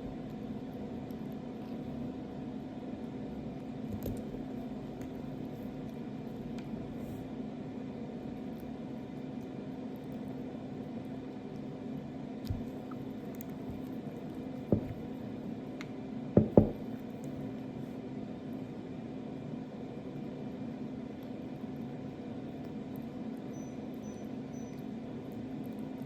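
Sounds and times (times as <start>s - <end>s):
cat gnawing a bone: 0.1s - 15.8s, 20.2s - 26.0s.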